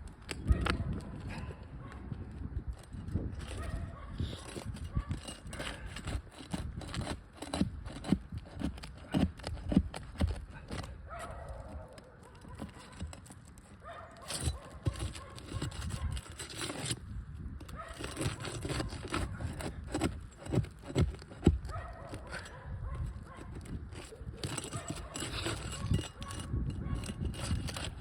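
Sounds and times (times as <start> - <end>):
flat bar knocking and scraping shingle: 2.1 - 28.0.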